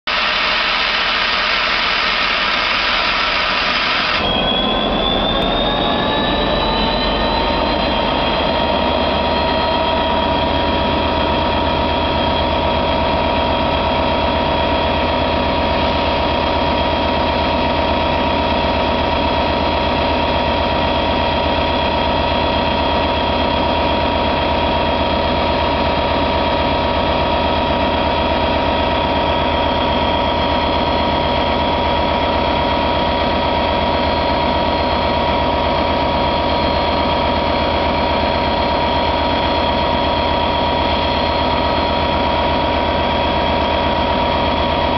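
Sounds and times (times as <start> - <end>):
steady high whine: 0.0 - 44.9.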